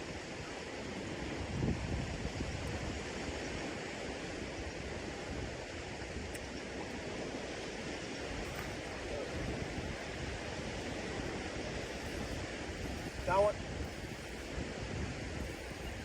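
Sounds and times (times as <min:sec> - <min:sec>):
wind and water rushing: 0:00.0 - 0:16.0.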